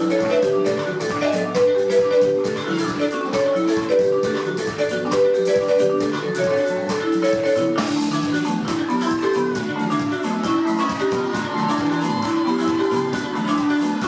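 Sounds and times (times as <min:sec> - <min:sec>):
steady percussion beat: 0:00.0 - 0:14.0.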